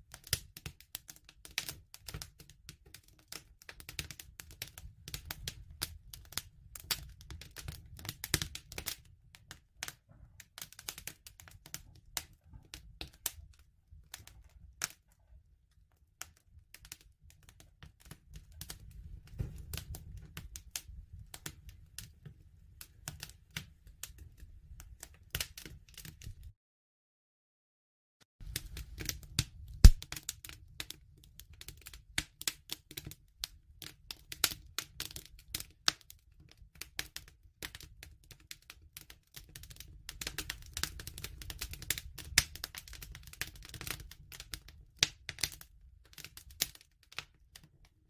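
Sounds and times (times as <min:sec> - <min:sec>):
wood fire crackling: 0:00.0 - 0:26.5, 0:28.4 - 0:47.8.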